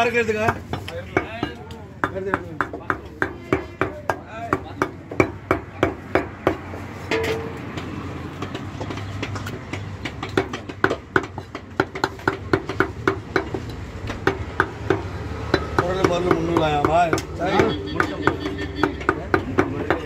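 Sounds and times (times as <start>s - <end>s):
cleaver chopping meat on wood: 0.3s - 6.9s, 7.7s - 20.0s.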